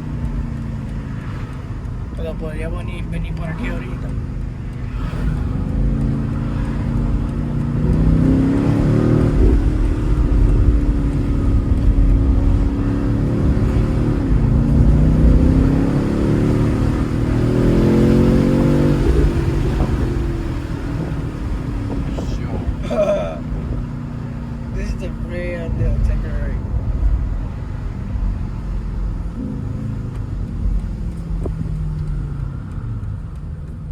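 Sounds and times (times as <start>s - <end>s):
car engine accelerating through gears: 0.0s - 33.9s.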